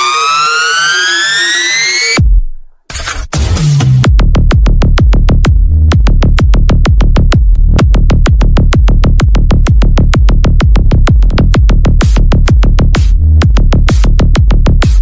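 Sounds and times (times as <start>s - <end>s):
electronic dance music: 0.0s - 15.0s
heavy bass: 0.0s - 15.0s
drum-machine beat: 1.7s - 15.0s.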